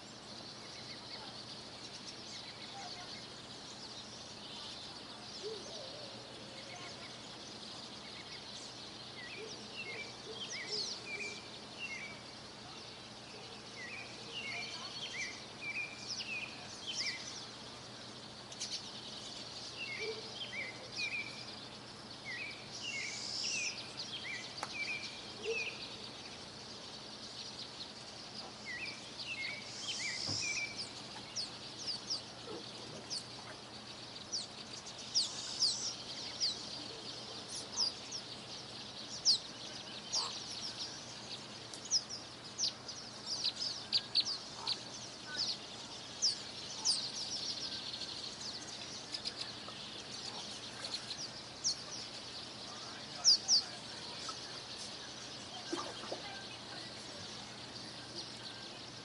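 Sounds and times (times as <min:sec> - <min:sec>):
faint steady hiss: 0:00.0 - 0:59.0
small birds chirping: 0:00.0 - 0:59.0.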